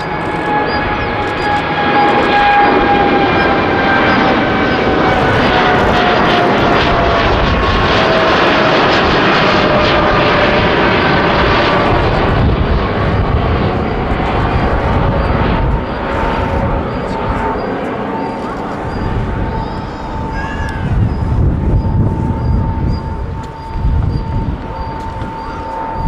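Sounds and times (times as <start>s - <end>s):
jet engines at takeoff: 0.0s - 26.0s.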